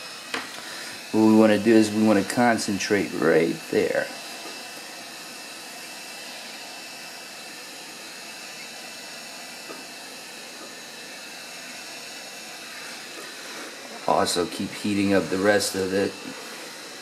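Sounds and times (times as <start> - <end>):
heat gun hissing hot air: 0.0 - 17.0.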